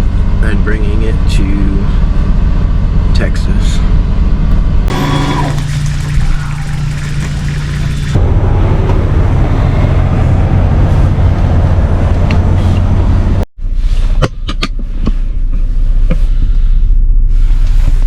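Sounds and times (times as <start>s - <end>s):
deep rumble: 0.0s - 17.4s
truck engine rumbling: 1.5s - 16.6s.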